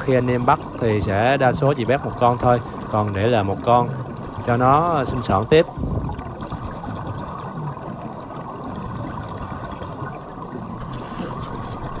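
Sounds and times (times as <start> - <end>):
muffled underwater water rush: 0.0 - 12.0.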